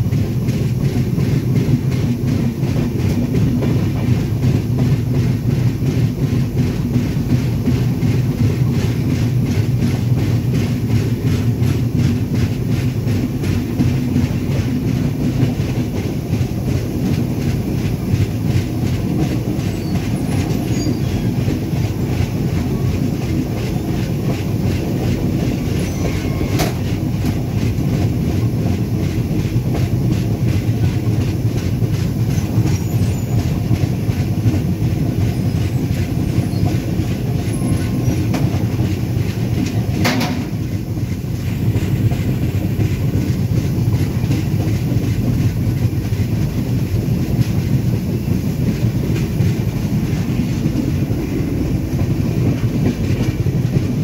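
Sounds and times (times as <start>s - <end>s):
train wheels clickety-clack: 0.0s - 54.0s.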